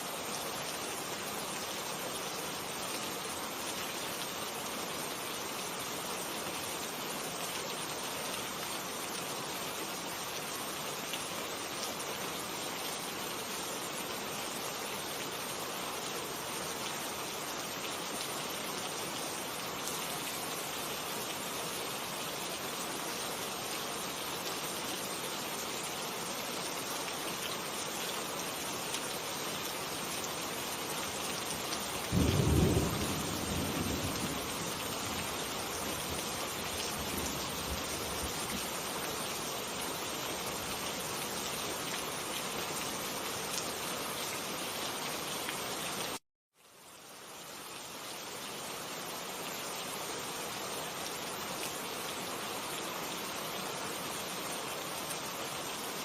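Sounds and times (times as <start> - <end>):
heavy rain falling: 0.0 - 46.2.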